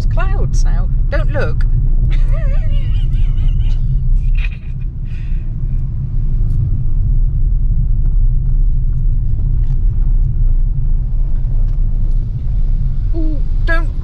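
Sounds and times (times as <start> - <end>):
car engine rumble: 0.0 - 14.0
road noise inside car: 0.0 - 14.0.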